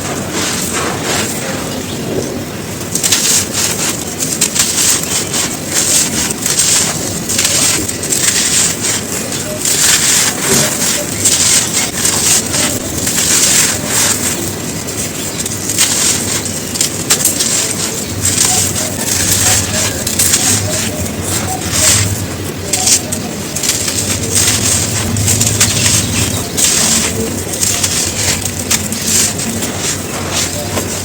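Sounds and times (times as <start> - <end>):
cones being crushed by hand: 2.2 - 31.0.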